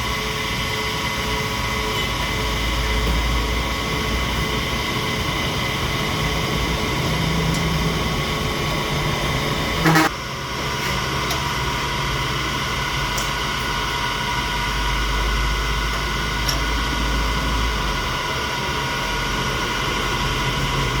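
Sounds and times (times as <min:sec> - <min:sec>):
machine tool humming and whining: 0:00.0 - 0:21.0.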